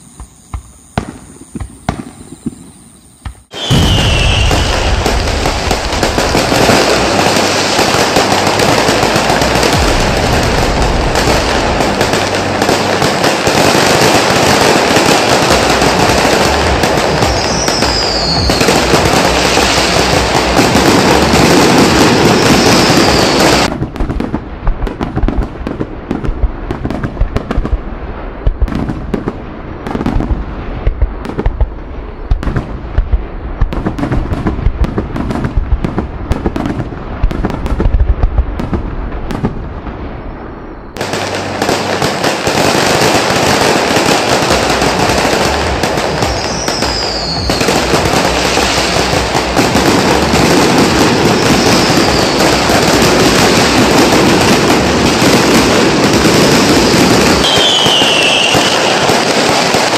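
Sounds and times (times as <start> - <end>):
fireworks bangs and pops: 0.0 - 59.9
fireworks crackling hiss: 0.0 - 59.9.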